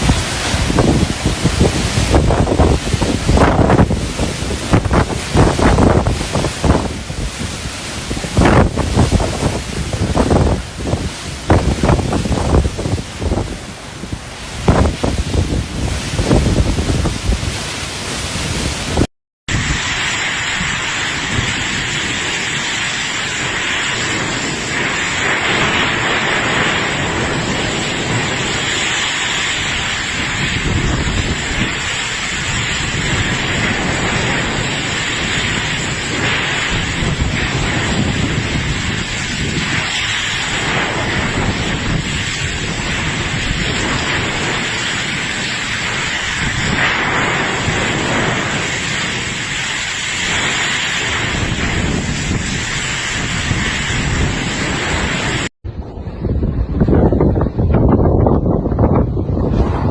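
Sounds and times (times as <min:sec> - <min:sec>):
heavy rain downpour: 0:00.0 - 0:55.5
wind buffeting microphone: 0:00.0 - 0:59.9.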